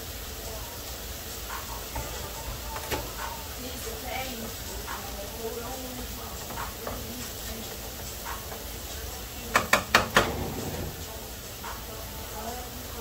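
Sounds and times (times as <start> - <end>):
sausages sizzling in a pan: 0.0 - 13.0.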